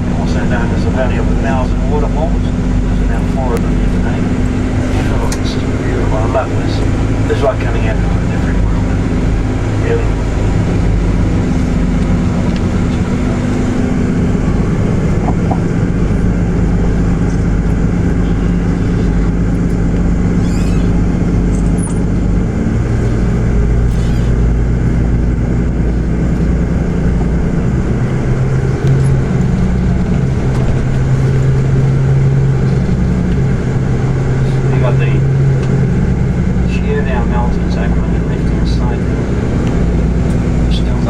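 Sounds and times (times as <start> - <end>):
bus engine hum: 0.0 - 41.0
road noise: 0.0 - 41.0.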